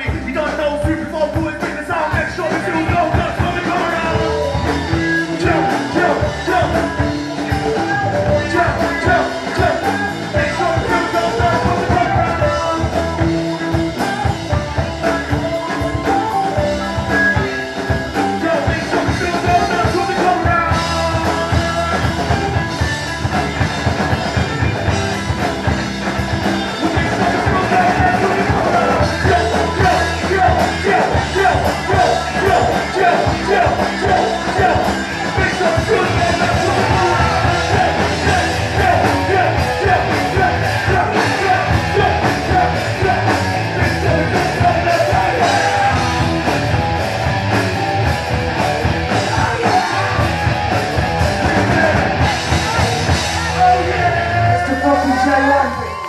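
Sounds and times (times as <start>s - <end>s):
rock band playing: 0.0s - 56.0s
yelled vocals: 0.0s - 56.0s.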